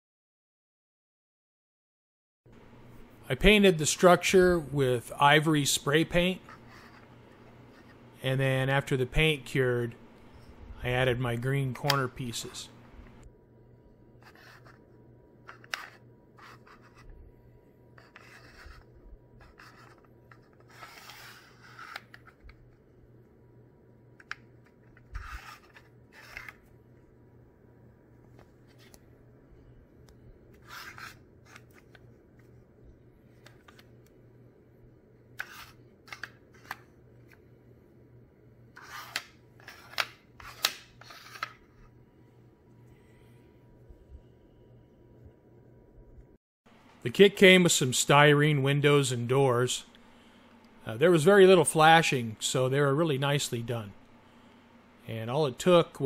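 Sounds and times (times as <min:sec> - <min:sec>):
faint steady hum: 0:02.5 - 0:56.0.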